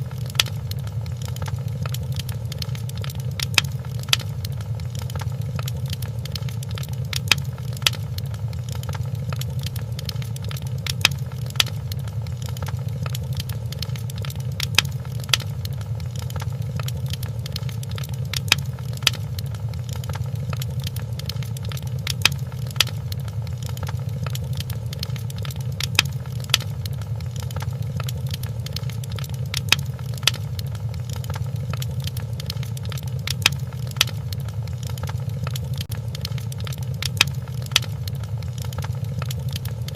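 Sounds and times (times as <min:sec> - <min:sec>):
low fire rumble: 0:00.0 - 0:39.9
sharp fire pops: 0:00.0 - 0:39.9
wood fire crackling: 0:00.0 - 0:39.9.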